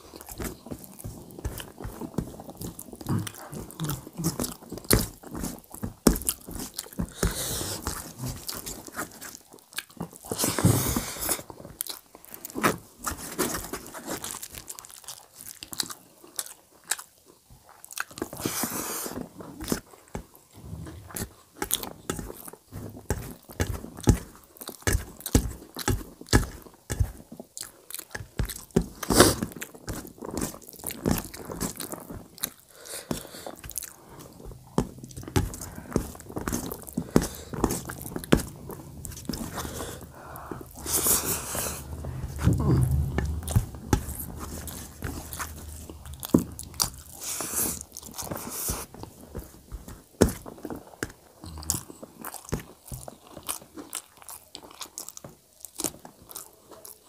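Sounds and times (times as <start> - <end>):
chewing and crunching: 0.0 - 23.0, 24.0 - 42.2, 45.3 - 57.0.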